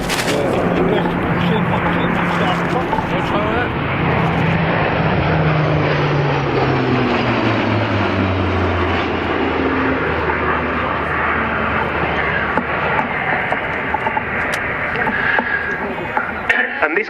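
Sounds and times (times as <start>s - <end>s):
turboprop aircraft flying past: 0.0s - 17.0s.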